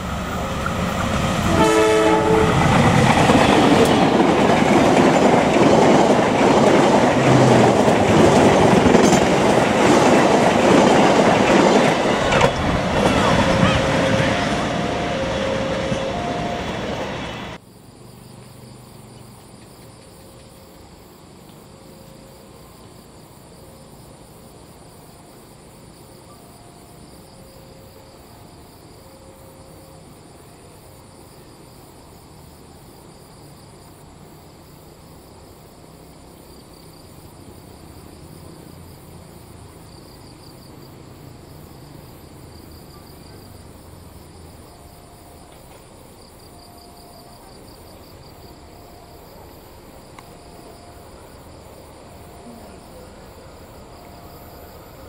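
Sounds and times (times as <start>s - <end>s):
insects chirring: 0.0s - 55.0s
passenger train passing: 0.0s - 55.0s.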